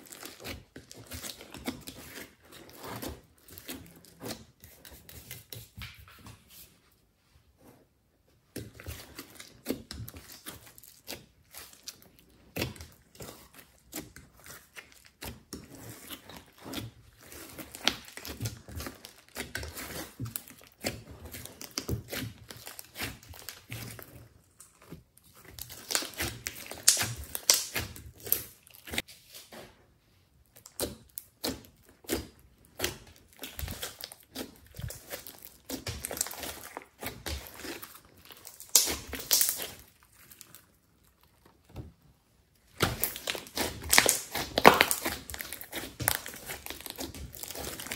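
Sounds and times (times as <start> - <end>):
hands squishing sticky slime: 0.0 - 6.6, 8.4 - 29.6, 30.4 - 47.9.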